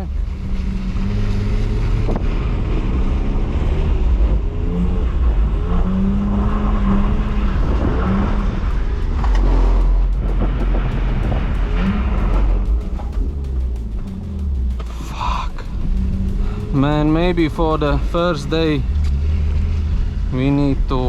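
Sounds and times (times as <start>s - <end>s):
car engine running hard: 0.0s - 21.0s
tyre and road noise: 0.0s - 21.0s.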